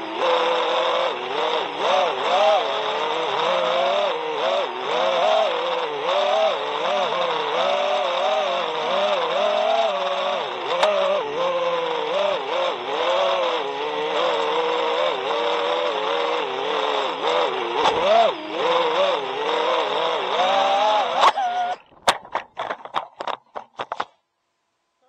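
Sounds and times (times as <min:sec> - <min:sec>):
quadcopter motors whining: 0:00.0 - 0:24.1.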